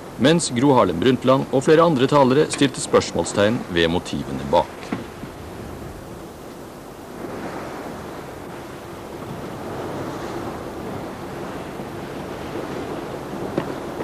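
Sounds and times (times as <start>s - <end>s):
sea water splashing: 0.0s - 14.0s
wind buffeting microphone: 0.0s - 14.0s.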